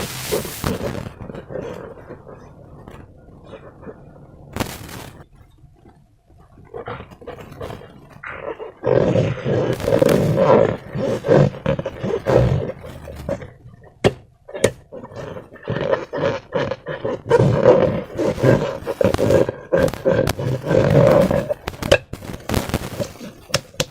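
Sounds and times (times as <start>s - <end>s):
rubber balloon squeaking and squelching: 0.0s - 23.9s.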